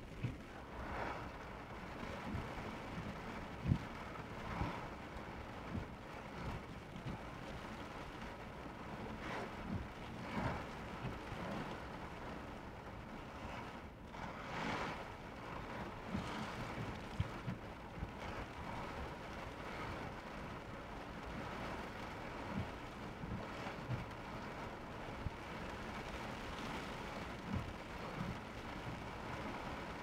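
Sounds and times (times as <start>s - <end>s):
heavy rain beating on a car: 0.0s - 30.0s.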